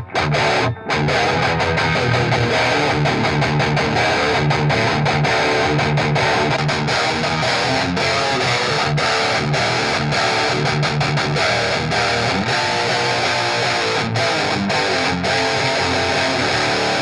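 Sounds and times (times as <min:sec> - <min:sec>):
distorted electric guitar riffs: 0:00.0 - 0:17.0.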